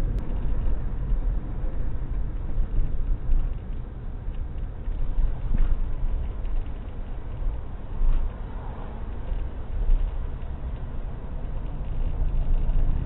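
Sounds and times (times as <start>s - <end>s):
van engine and road noise: 0.0s - 13.0s.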